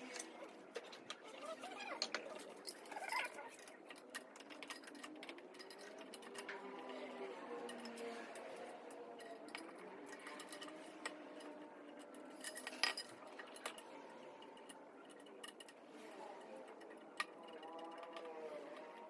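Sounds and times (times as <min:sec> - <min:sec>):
metal tools clinking: 0:00.0 - 0:19.0.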